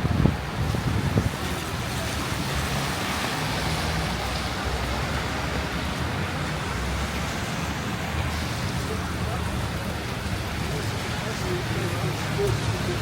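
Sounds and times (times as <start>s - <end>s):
heavy rain hiss: 0.0s - 13.0s
rumble of road traffic: 0.0s - 13.0s.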